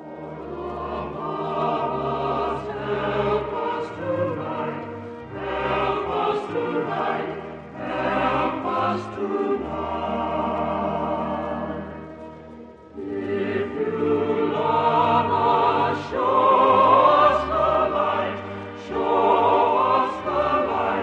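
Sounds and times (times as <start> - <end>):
choir singing slow hymn: 0.0 - 21.0.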